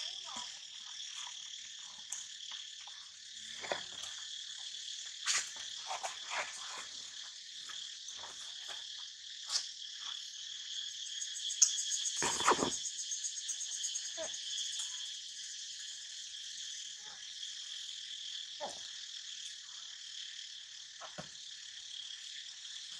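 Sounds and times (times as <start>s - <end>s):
insects buzzing and trilling: 0.0s - 22.9s.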